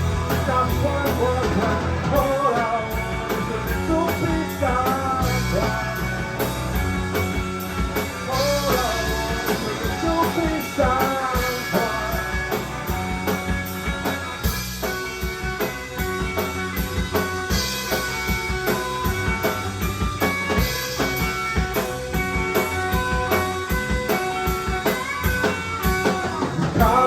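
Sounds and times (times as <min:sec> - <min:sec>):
instrumental rock music: 0:00.0 - 0:27.0.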